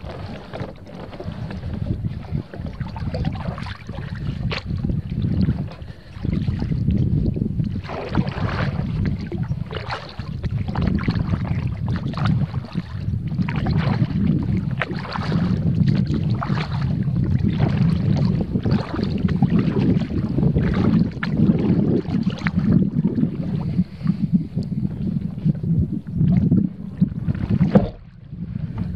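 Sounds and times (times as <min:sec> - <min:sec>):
kayak paddle splashing in water: 0:00.0 - 0:06.9, 0:07.6 - 0:23.6, 0:27.2 - 0:28.2
wind rumble on microphone: 0:00.0 - 0:28.9.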